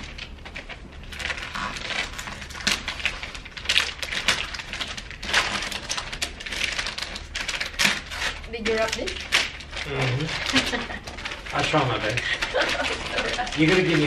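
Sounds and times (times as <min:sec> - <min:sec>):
wrapping paper tearing: 0:00.0 - 0:14.0.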